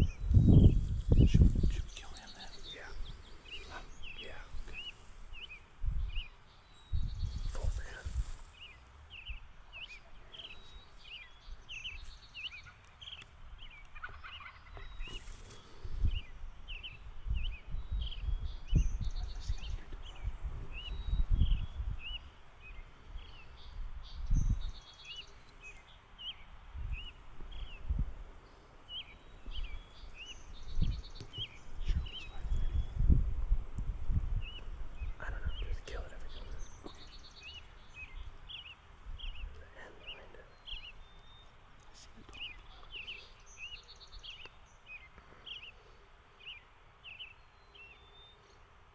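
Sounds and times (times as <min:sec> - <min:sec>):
wild birds chirping: 0:00.0 - 0:48.9.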